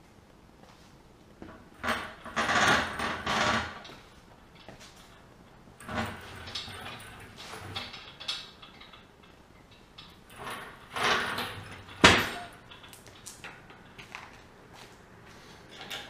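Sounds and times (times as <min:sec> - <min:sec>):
engine hoist rolling on concrete: 0:01.7 - 0:14.5, 0:15.6 - 0:16.0.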